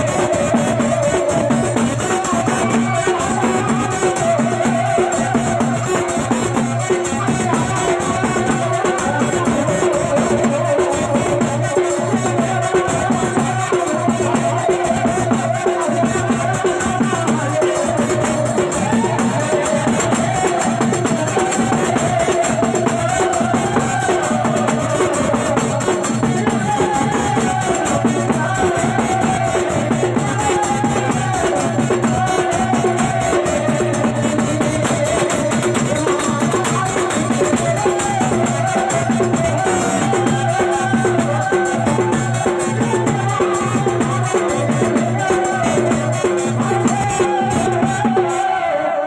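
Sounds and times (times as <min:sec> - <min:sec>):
loud music with steady drumming: 0:00.0 - 0:49.0.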